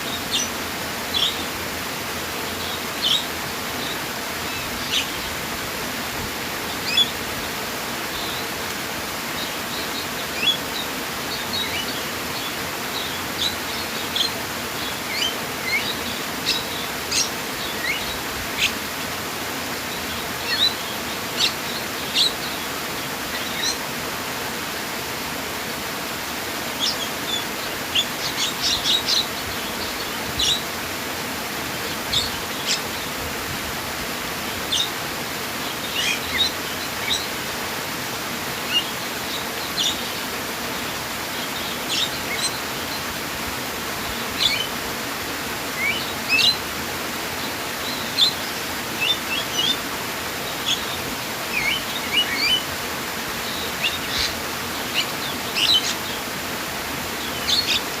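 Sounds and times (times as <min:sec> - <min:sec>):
small birds chirping: 0:00.0 - 0:01.6, 0:02.3 - 0:05.4, 0:06.6 - 0:23.9, 0:26.6 - 0:31.0, 0:31.6 - 0:33.2, 0:34.4 - 0:37.5, 0:38.6 - 0:43.2, 0:43.8 - 0:44.8, 0:45.6 - 0:58.0
running water: 0:00.0 - 0:58.0.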